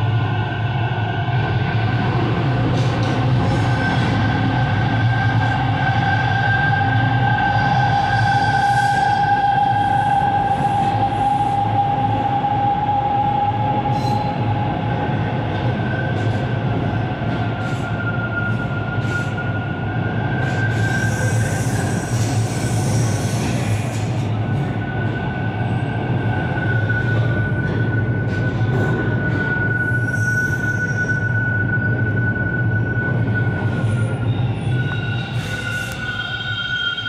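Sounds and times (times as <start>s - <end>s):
subway train rumbling: 0.0s - 37.0s.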